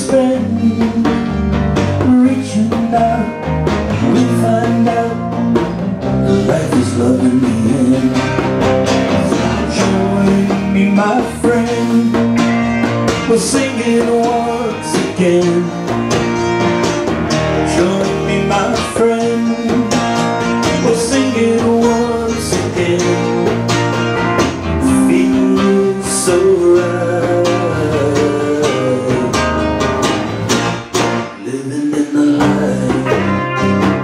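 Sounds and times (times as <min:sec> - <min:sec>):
man singing: 0:00.0 - 0:16.5, 0:17.3 - 0:23.7, 0:24.6 - 0:29.9, 0:31.3 - 0:34.0
lap steel guitar: 0:00.0 - 0:31.6, 0:32.4 - 0:34.0
electric bass: 0:00.0 - 0:34.0.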